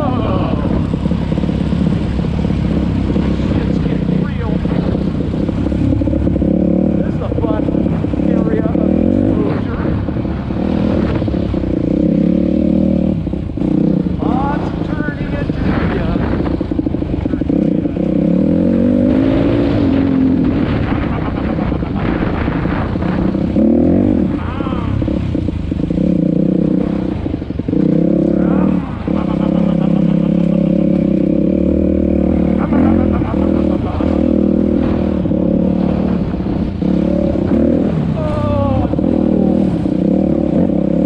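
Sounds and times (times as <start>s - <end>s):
off-road engines revving: 0.0s - 41.0s.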